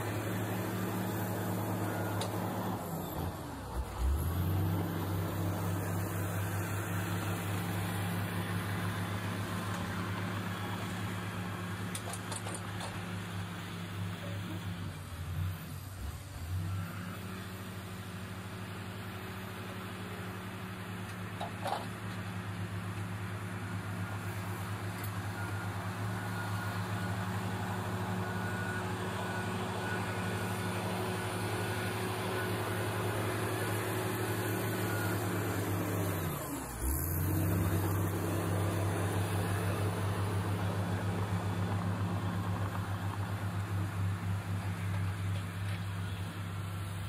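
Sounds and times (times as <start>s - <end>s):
heavy diesel engines running: 0.0s - 47.0s.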